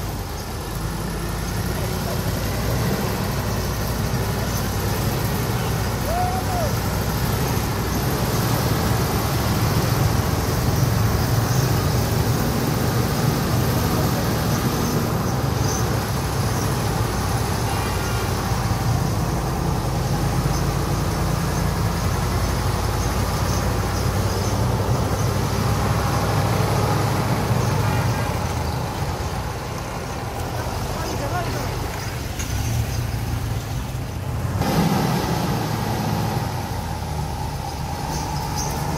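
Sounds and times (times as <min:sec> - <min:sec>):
truck diesel engine rumbling: 0:00.0 - 0:38.9.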